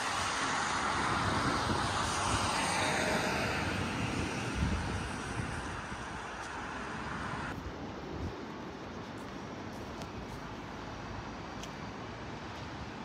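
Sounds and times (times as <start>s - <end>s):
steady rushing city noise: 0.0s - 13.0s.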